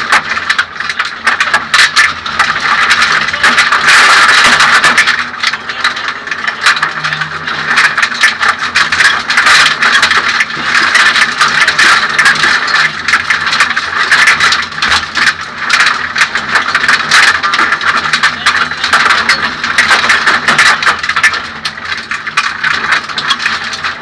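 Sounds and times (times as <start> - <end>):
rattling and clattering: 0.0 - 24.0.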